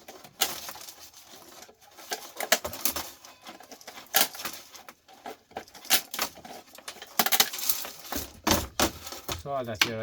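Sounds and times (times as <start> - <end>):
plastic parts clicking and clattering: 0.0 - 10.0.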